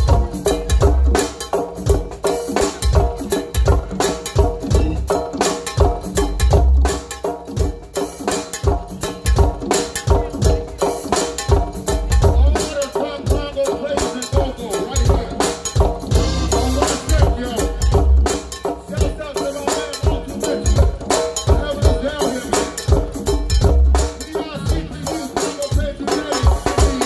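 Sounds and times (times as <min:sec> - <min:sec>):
band playing live: 0:00.0 - 0:27.0
conga drums: 0:00.0 - 0:27.0.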